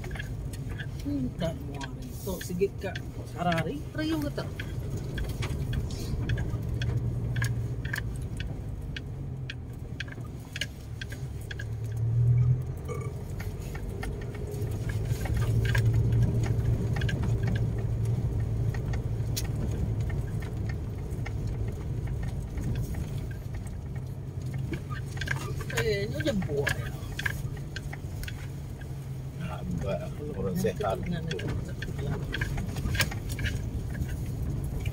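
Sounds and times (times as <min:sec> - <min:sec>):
car engine and road hum: 0:00.0 - 0:34.9
car rattles and clicks: 0:00.0 - 0:34.9.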